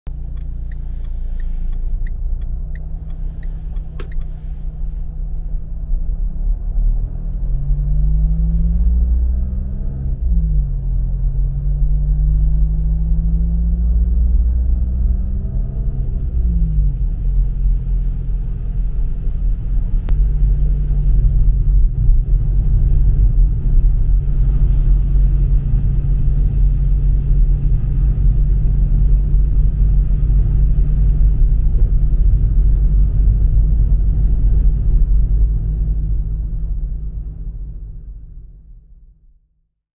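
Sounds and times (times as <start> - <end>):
car engine droning: 0.1 - 38.5.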